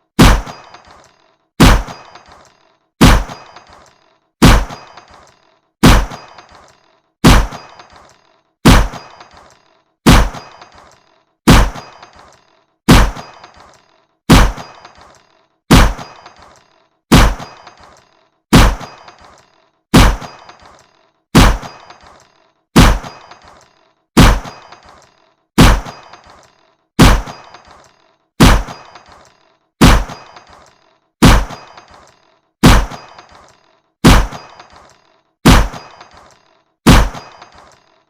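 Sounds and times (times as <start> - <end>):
shooting gallery gun shots: 0.0 - 37.9.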